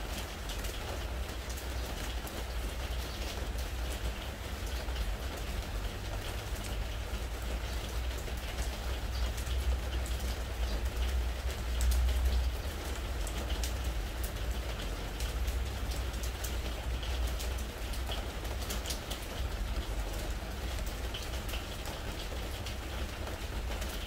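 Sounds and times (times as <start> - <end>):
rain on wooden deck: 0.0 - 24.0.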